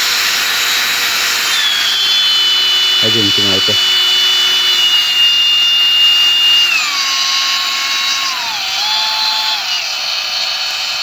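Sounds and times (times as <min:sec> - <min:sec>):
angle grinder whining: 0:00.0 - 0:11.0.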